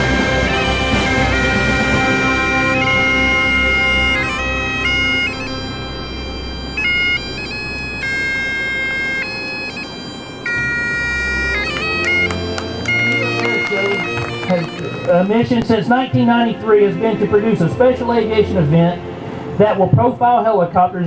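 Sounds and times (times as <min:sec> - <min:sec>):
bagpipes playing slow tune: 0:00.0 - 0:19.8.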